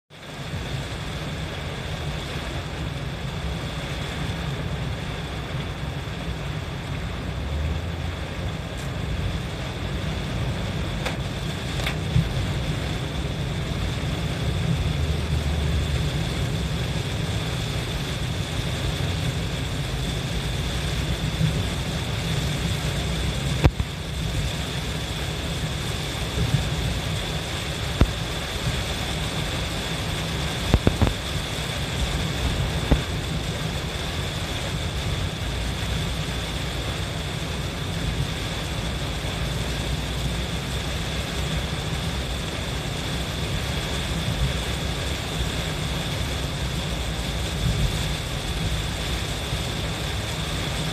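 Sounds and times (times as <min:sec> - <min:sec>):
car driving low rumble: 0:00.1 - 0:50.9
heavy rain and wet tyres hiss: 0:00.1 - 0:50.9.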